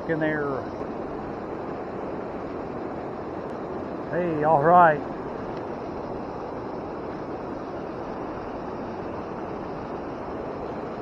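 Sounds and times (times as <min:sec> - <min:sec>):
water pouring over waterfall: 0:00.0 - 0:11.0.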